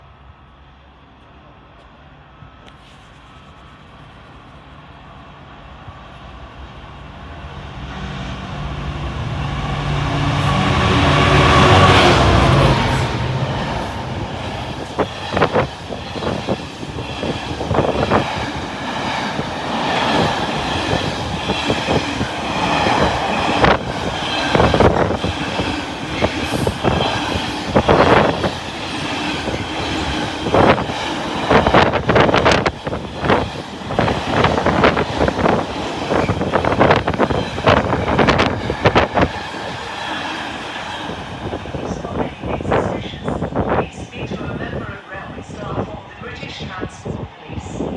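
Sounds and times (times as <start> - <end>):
diesel locomotive engine: 0.0 - 47.9.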